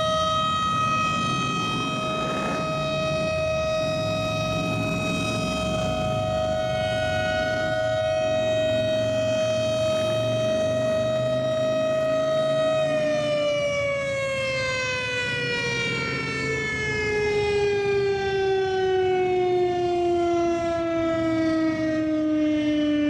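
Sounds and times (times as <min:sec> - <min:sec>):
warning siren winding down: 0:00.0 - 0:23.0.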